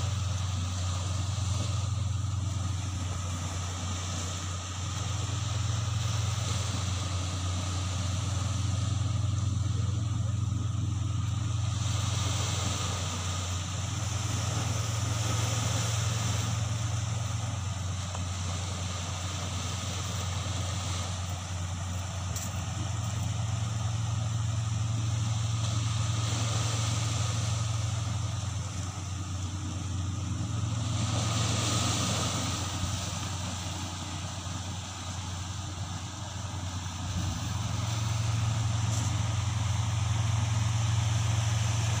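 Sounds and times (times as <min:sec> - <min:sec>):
low engine hum: 0:00.0 - 0:42.0
small waves washing onto shore: 0:00.0 - 0:42.0.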